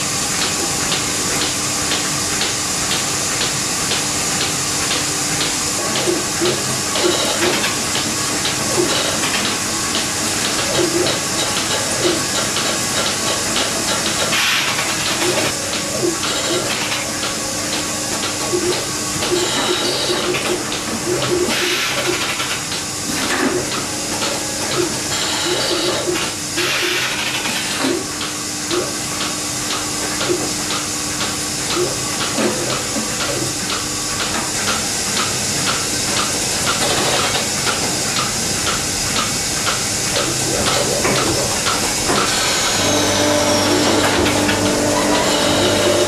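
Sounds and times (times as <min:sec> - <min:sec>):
constant machine hum: 0:00.0 - 0:46.0.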